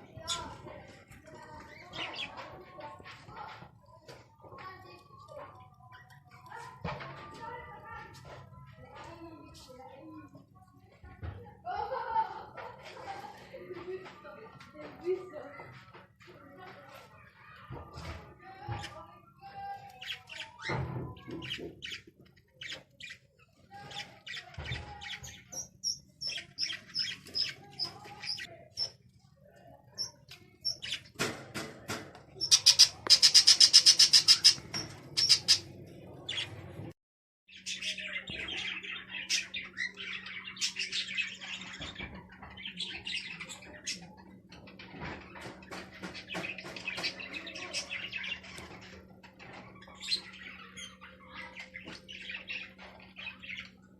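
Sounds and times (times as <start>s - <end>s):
small birds chirping: 0.0s - 11.2s, 12.7s - 36.9s, 37.5s - 53.9s.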